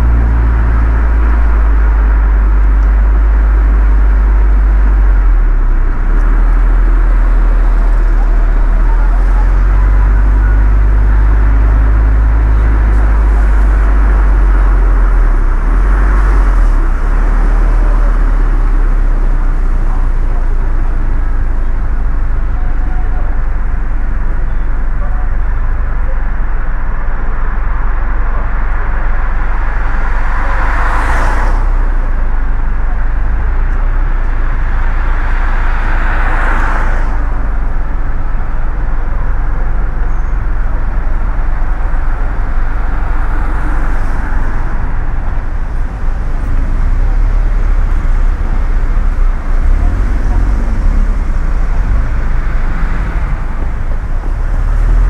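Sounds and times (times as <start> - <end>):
road traffic rumble: 0.0 - 55.0
vehicles swishing past: 0.0 - 55.0.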